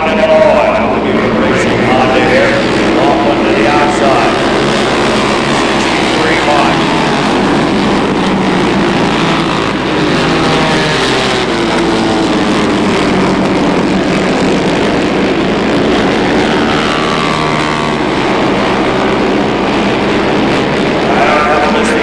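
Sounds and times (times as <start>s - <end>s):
racing motorcycles accelerating: 0.0s - 22.0s.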